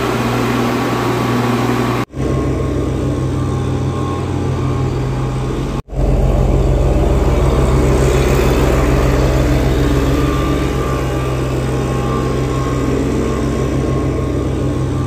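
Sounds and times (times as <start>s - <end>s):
asphalt roller diesel engine: 0.0s - 15.0s.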